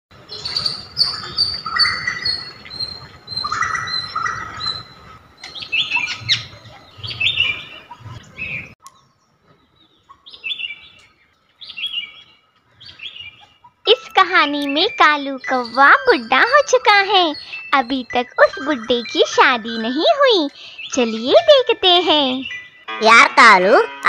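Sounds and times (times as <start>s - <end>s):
birds chirping and twittering: 0.2s - 24.0s.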